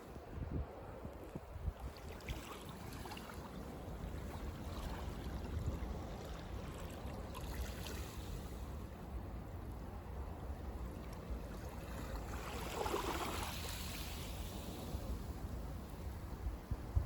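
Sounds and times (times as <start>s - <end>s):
wind rumbling on microphone: 0.0s - 17.0s
sea waves washing in: 1.8s - 17.0s.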